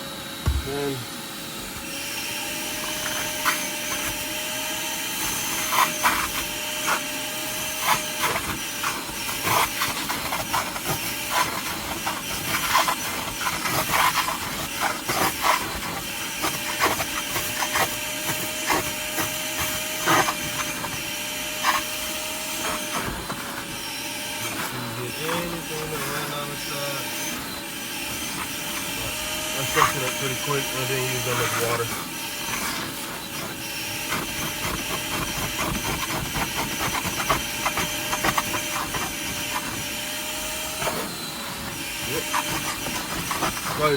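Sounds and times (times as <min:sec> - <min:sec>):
shop vac whining: 0:00.0 - 0:43.9
nozzle sucking water from carpet: 0:00.4 - 0:43.9.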